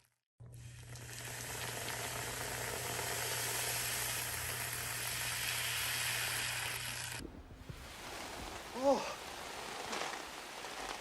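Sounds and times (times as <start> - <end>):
steady hissing noise: 1.6 - 11.0.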